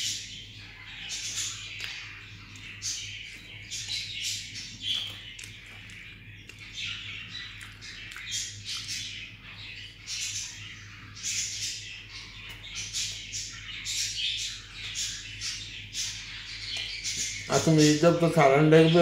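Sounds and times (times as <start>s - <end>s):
birds chirping and squawking: 0.0s - 19.0s
steady low hum: 0.0s - 19.0s.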